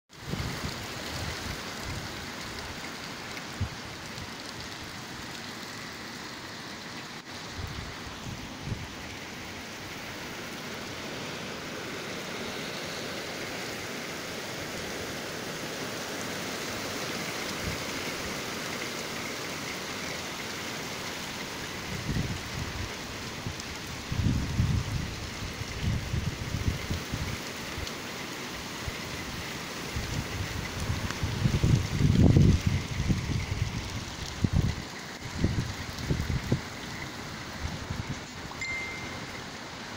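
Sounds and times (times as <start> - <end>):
heavy rain pouring: 0.1 - 39.9.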